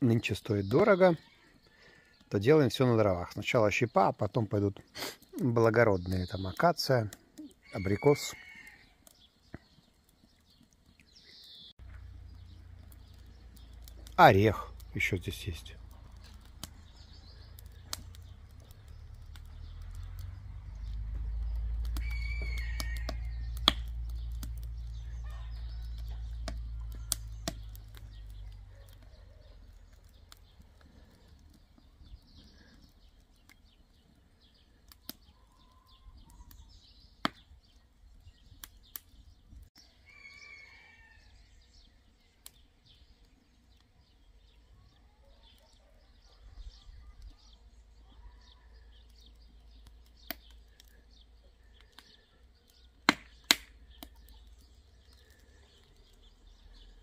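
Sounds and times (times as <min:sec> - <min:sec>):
wood fire crackling and popping: 0:00.0 - 0:40.6, 0:41.4 - 0:57.0
birds chirping: 0:00.0 - 0:57.0.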